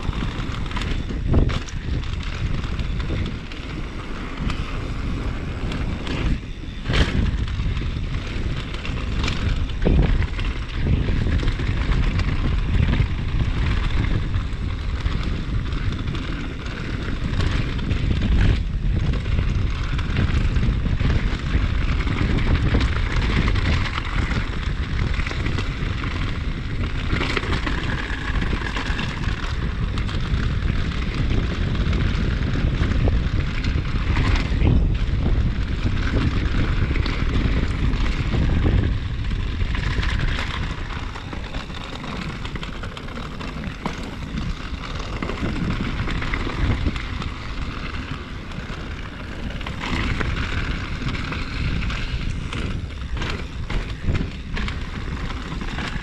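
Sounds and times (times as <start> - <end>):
bike tyres rattling over dirt: 0.0 - 56.0
wind buffeting microphone: 0.0 - 56.0.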